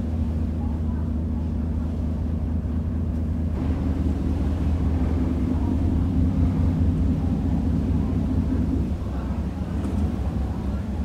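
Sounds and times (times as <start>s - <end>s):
ferry engine low rumble: 0.0s - 11.0s.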